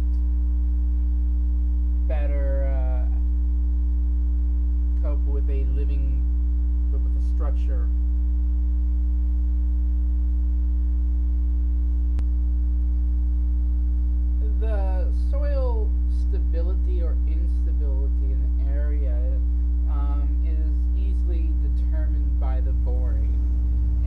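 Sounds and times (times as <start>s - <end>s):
loud electrical mains hum: 0.0s - 24.0s.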